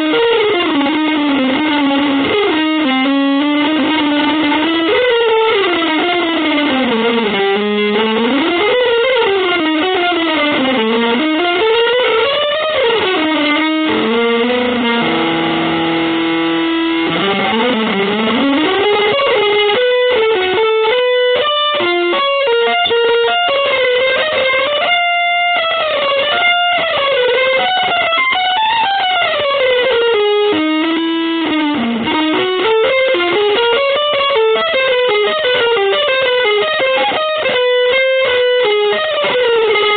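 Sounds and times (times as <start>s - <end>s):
electric guitar with effects: 0.0s - 39.9s.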